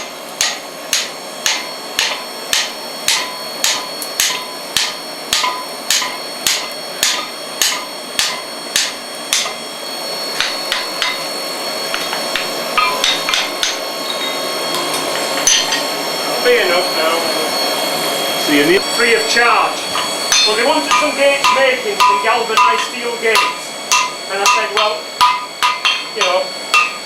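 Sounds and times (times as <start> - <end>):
hammer striking hot iron: 0.0 - 9.6, 10.3 - 11.3, 11.9 - 15.9, 19.7 - 27.0.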